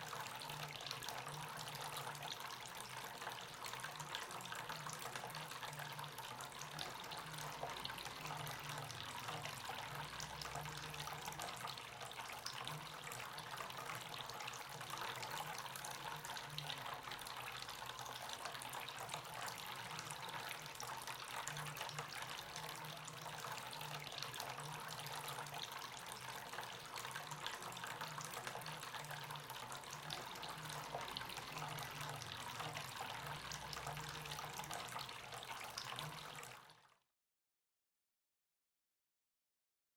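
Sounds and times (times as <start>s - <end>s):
fountain water trickling and splashing: 0.0s - 36.9s.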